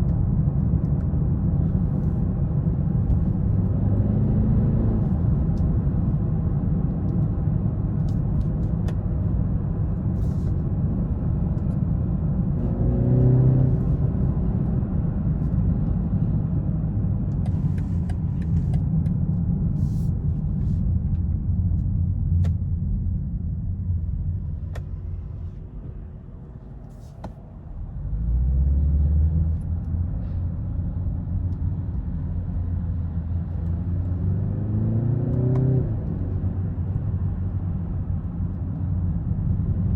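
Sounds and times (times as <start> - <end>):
car engine: 0.0 - 39.9
road noise: 0.0 - 39.9.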